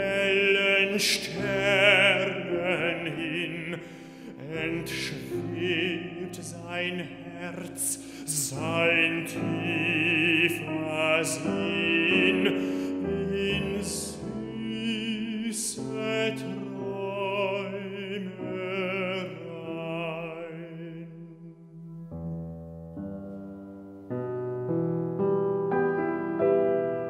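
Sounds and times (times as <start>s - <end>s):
baritone singing with vibrato: 0.0s - 21.8s
grand piano: 0.0s - 27.0s.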